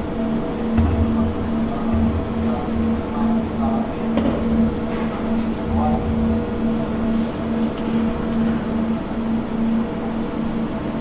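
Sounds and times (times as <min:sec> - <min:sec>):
ship machinery droning hum: 0:00.0 - 0:11.0.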